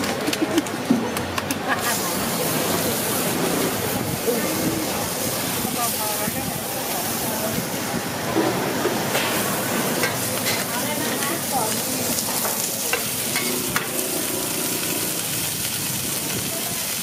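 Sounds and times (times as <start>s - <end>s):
seafood sizzling in oil: 1.8s - 17.0s.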